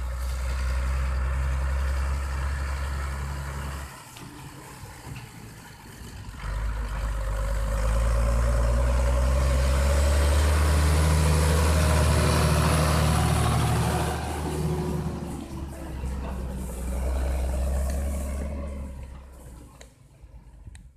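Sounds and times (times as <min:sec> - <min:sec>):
trailers rolling past: 0:00.0 - 0:20.7
tractor diesel engine at full power: 0:00.0 - 0:20.9.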